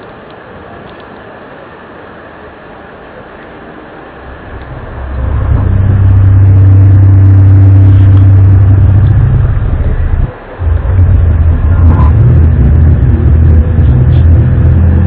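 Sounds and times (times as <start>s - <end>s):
low droning hum: 2.9s - 15.0s.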